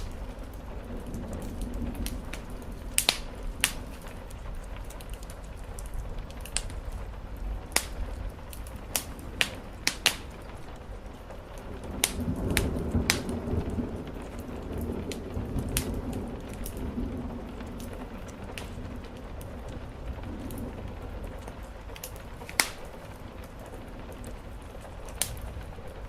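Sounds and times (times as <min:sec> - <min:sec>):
rain on the roof: 0:00.0 - 0:26.0
wood fire crackling and popping: 0:00.0 - 0:26.0.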